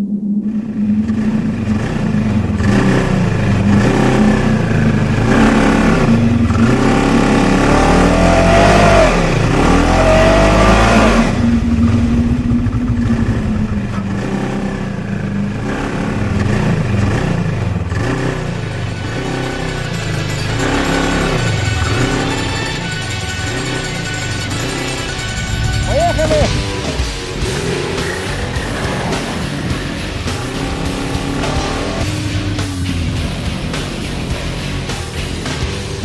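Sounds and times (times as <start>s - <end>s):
vehicle engines revving: 0.4s - 36.0s.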